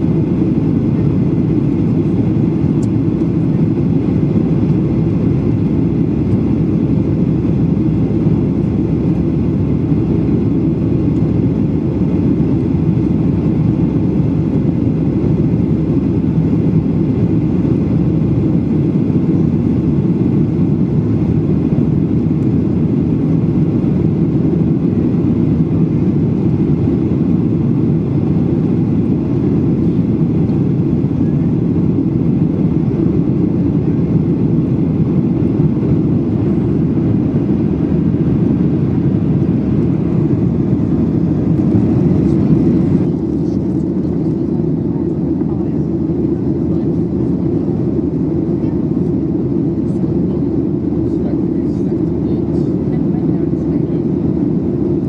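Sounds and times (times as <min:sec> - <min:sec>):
jet airliner cabin noise: 0:00.0 - 0:55.0.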